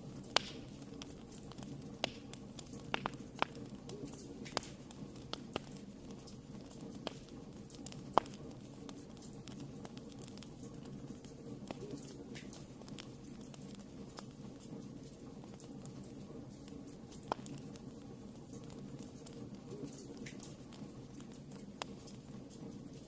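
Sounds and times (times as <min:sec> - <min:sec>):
fire crackling and popping: 0:00.0 - 0:23.0
fire flames rushing: 0:00.0 - 0:23.0.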